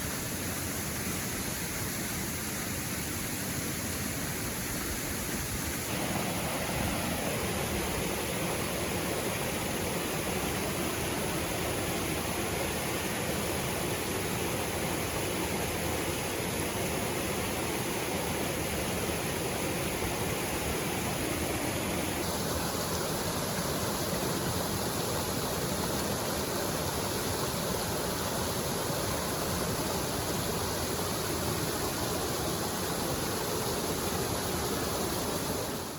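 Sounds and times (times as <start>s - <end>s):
waterfall and river rushing: 0.0s - 35.9s.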